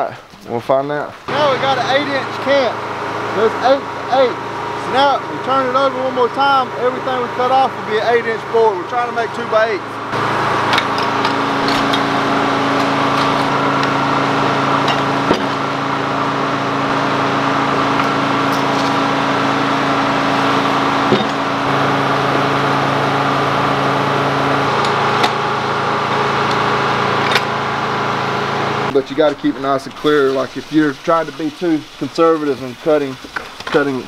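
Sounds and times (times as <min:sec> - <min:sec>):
diesel engine and circular blade hum: 0:01.2 - 0:34.0.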